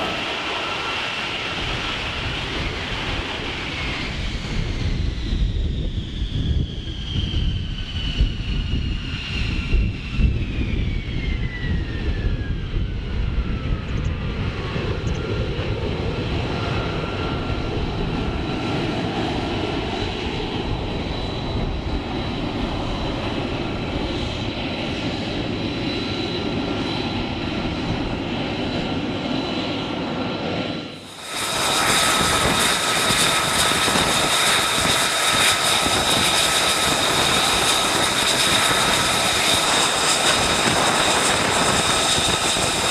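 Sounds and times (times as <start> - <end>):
jet engine whining: 0.0 - 42.9.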